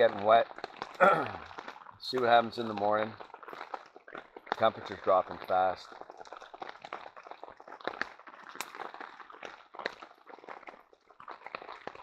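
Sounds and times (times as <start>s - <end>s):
heavy rain on a tarp: 0.0s - 12.0s
sharp pops: 0.0s - 12.0s.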